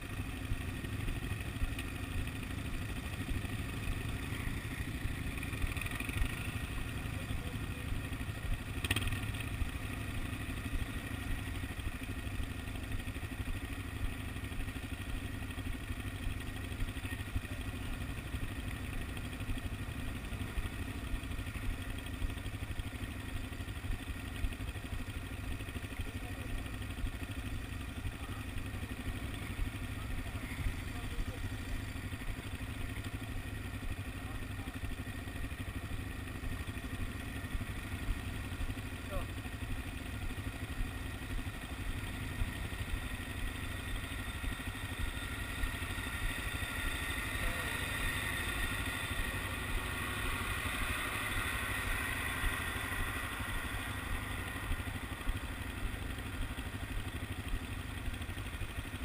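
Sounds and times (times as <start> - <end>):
quad bike engine idling: 0.0 - 59.0.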